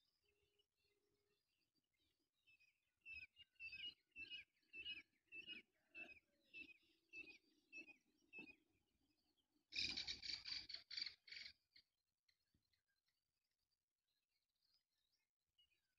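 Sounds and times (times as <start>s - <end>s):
faint bird chirps: 0.0s - 15.9s.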